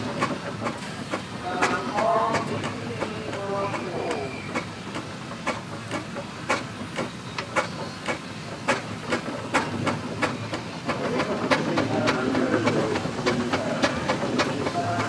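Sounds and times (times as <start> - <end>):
steam engine knocking: 0.0 - 15.0
steam hissing: 0.0 - 15.0.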